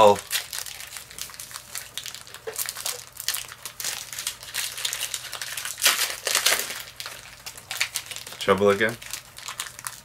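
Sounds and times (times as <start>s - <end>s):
foil wrappers crinkling: 0.0s - 10.0s.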